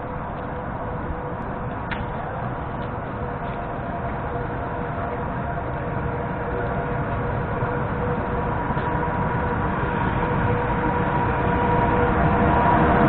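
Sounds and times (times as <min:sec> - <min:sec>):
steady hum: 0:00.0 - 0:13.0
train rumbling on track: 0:00.0 - 0:13.0.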